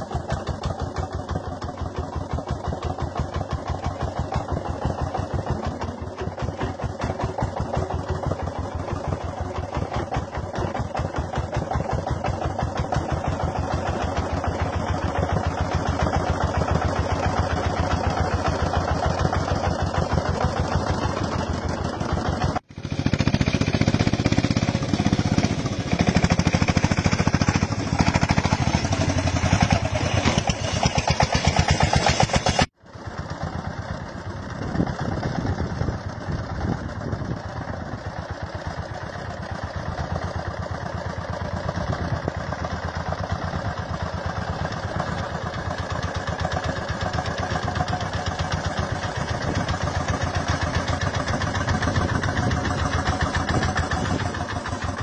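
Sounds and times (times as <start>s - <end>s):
tractor diesel engine chugging: 0.0s - 55.0s.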